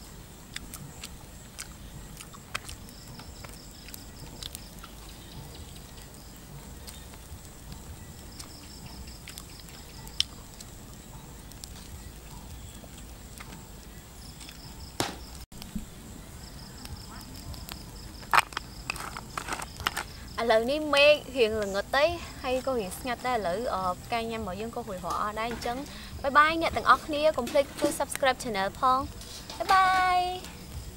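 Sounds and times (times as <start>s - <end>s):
campfire crackling and popping: 0.0s - 30.9s
insects trilling: 0.0s - 30.9s.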